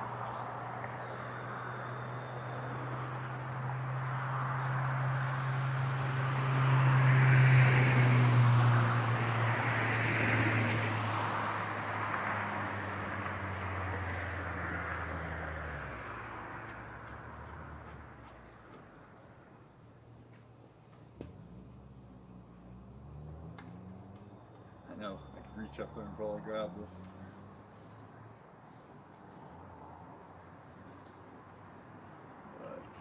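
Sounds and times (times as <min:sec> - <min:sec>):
motor vehicle passing: 0:00.0 - 0:33.0.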